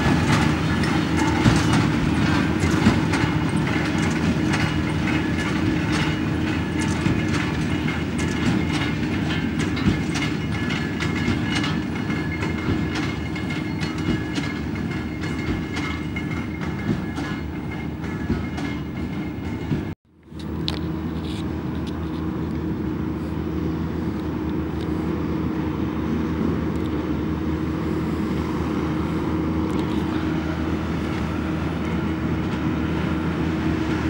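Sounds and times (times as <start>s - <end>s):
baler machinery clattering: 0.0s - 22.8s, 26.4s - 34.0s
tractor engine drone: 0.0s - 34.0s.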